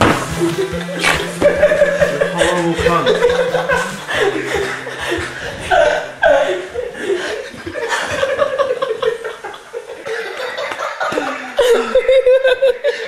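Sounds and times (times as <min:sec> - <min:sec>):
young man laughing: 0:00.4 - 0:13.0.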